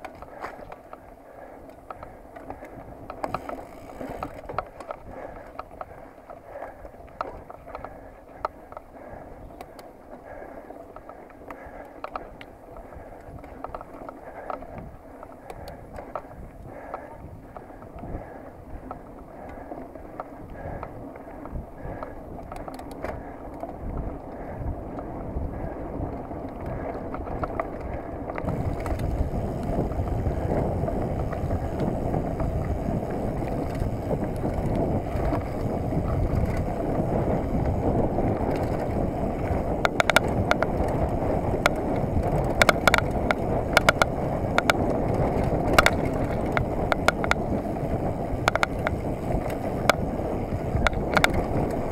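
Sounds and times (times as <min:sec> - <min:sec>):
bike rattles and knocks: 0:00.0 - 0:51.9
rush and rumble of bike tyres: 0:00.0 - 0:51.9.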